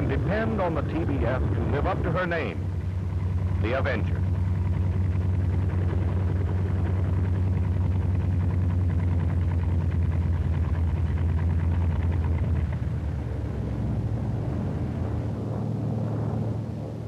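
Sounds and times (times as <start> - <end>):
propeller winding down: 0.0 - 17.0
radial engine droning: 0.0 - 17.0.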